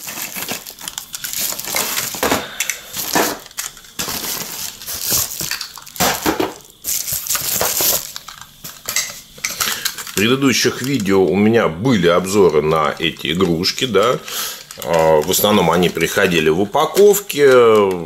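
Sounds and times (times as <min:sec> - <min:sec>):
bubble wrap and cardboard rustling: 0:00.0 - 0:18.0.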